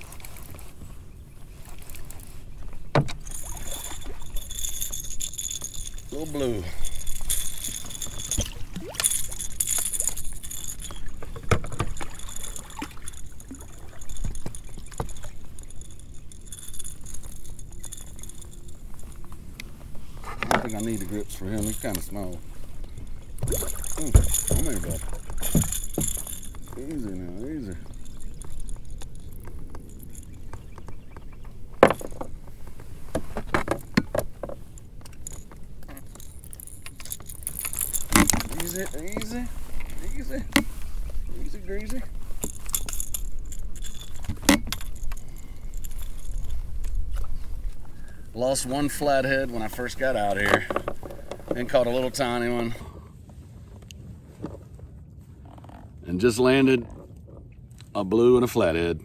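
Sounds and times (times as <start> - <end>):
fishing gear jangling: 0.0 - 53.0
knocks and rattles in a kayak: 0.0 - 58.0
high jingling: 3.1 - 52.8.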